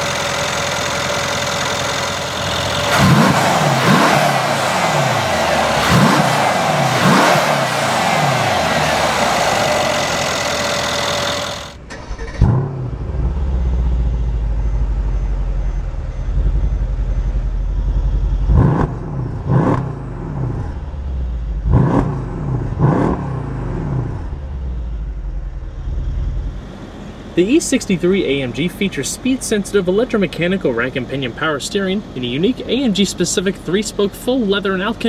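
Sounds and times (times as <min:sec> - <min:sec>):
exhaust idle rumble: 0:00.0 - 0:22.8, 0:23.4 - 0:35.0
car engine revving: 0:00.0 - 0:35.0.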